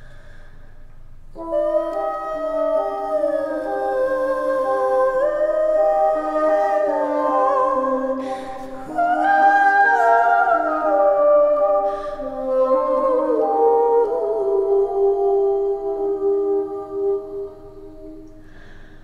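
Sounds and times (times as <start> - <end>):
bassoon sustained tones: 1.4 - 18.8.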